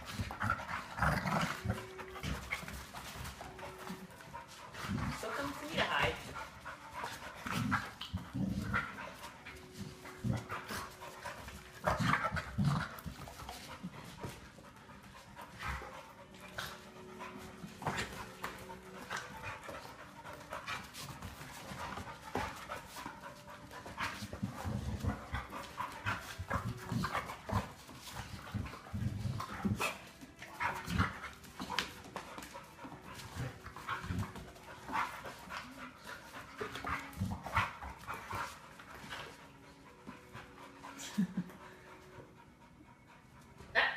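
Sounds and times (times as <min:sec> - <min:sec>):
dog panting: 0:00.0 - 0:43.7.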